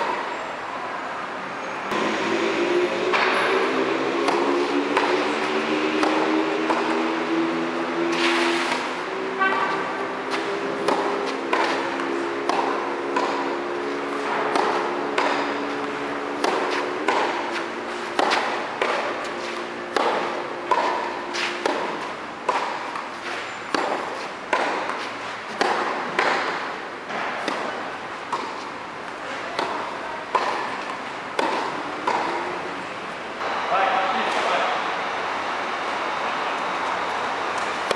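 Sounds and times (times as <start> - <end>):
tennis ball bouncing: 0.0 - 0.3, 3.1 - 33.6, 36.8 - 37.9
rackets hitting tennis ball: 3.0 - 34.8, 36.8 - 37.9.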